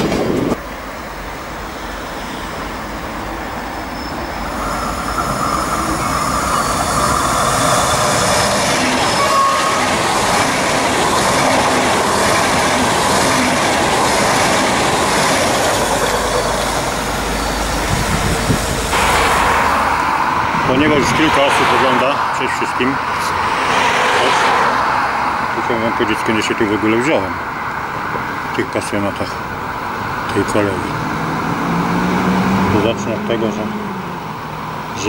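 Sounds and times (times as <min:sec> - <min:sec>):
train running on rails: 0:00.0 - 0:35.0.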